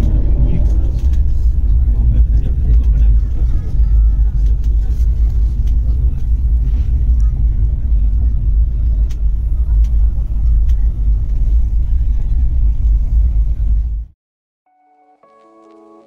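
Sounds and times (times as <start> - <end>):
train interior rumble: 0.0 - 14.2.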